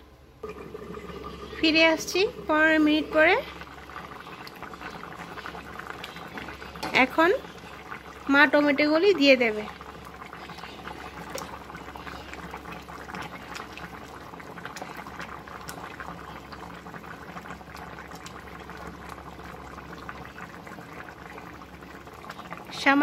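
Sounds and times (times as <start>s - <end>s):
curry boiling and bubbling: 0.4s - 23.0s.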